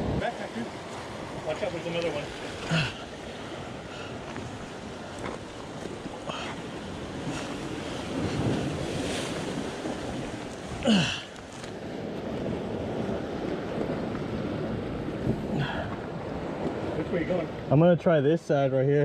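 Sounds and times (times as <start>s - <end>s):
wind on microphone: 0.0s - 1.5s, 2.2s - 17.7s
ocean surf washing against rocks: 0.0s - 17.7s.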